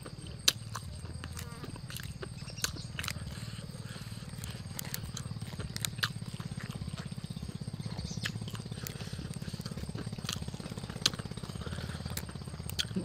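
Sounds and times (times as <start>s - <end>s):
dry noodles crunching: 0.0s - 13.0s
low pulsing drone: 0.0s - 13.0s.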